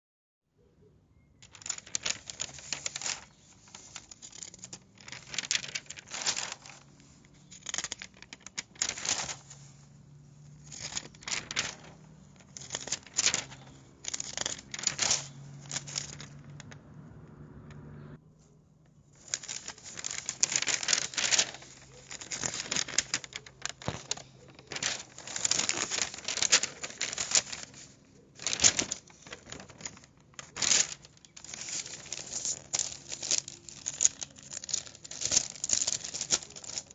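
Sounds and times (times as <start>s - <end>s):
newspaper rustling: 1.4s - 16.8s, 18.4s - 36.9s.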